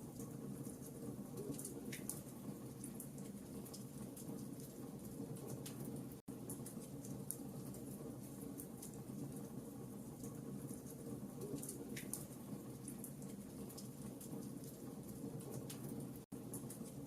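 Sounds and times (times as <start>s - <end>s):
fire low rumble: 0.0s - 17.0s.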